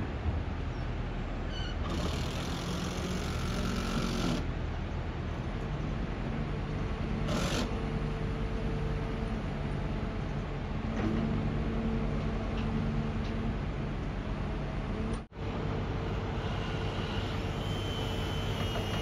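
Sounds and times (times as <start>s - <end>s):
continuous rushing noise: 0.0s - 19.0s
low mechanical hum: 0.0s - 19.0s.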